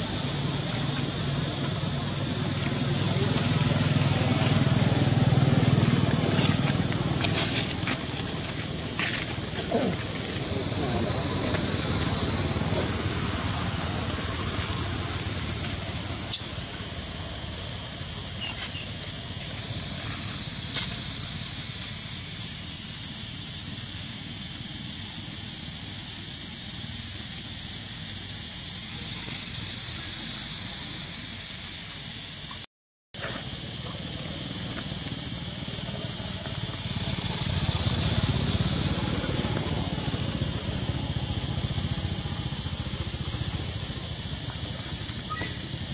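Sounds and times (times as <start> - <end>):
insect chorus buzzing drone: 0.0 - 32.6, 33.2 - 45.9.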